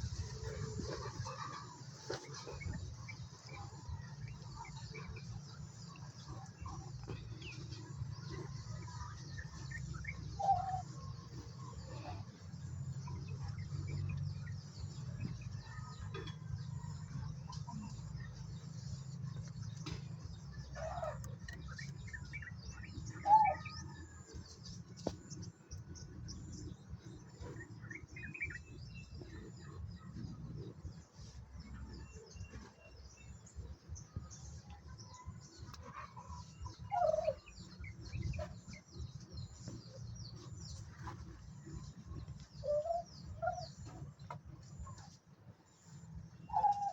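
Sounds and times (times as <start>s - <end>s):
poultry calling and chirping: 0.0s - 46.9s.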